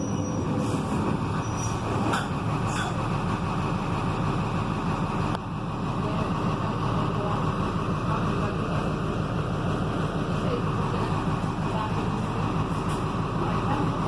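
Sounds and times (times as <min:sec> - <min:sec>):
bus transmission roaring: 0:00.0 - 0:14.0.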